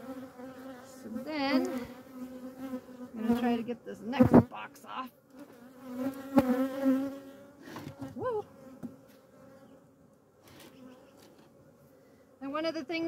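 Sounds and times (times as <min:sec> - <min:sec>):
bee buzzing past closely: 0:00.0 - 0:13.0
bee colony buzzing: 0:00.0 - 0:13.0.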